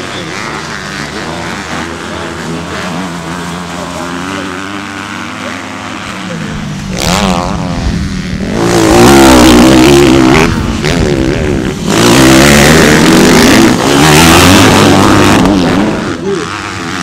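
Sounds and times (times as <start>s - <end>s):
dirt bikes revving: 0.0s - 17.0s.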